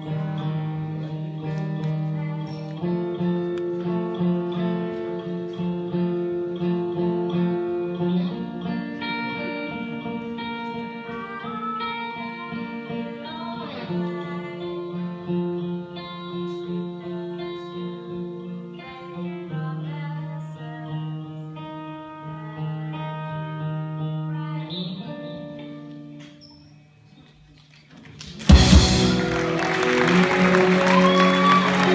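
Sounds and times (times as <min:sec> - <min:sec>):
guitar chords: 0:00.0 - 0:26.6, 0:28.4 - 0:31.9.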